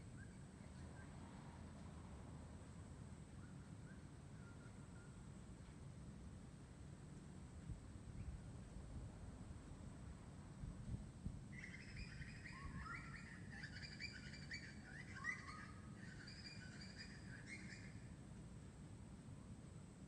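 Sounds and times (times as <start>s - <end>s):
faint low background rumble: 0.0s - 20.0s.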